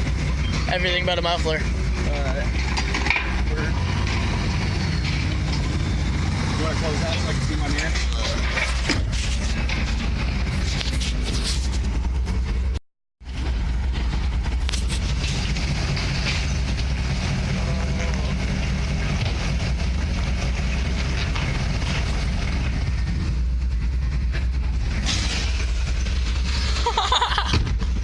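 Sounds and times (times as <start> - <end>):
low idling engine hum: 0.0 - 28.0
metal crunching and clanking: 0.0 - 28.0.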